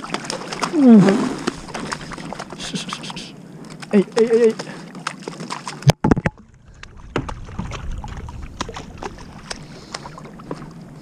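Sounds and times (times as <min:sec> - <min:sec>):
water slapping plastic kayak hull: 0:00.0 - 0:11.0.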